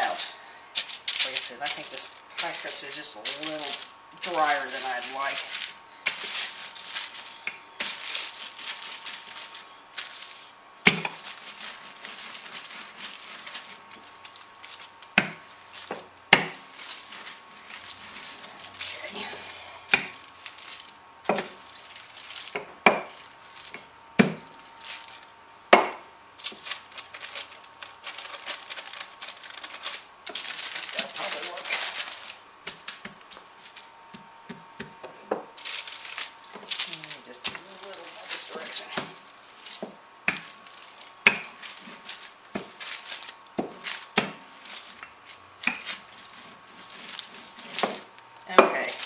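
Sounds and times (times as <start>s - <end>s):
wax paper crinkling: 0.0s - 25.3s, 26.3s - 49.0s.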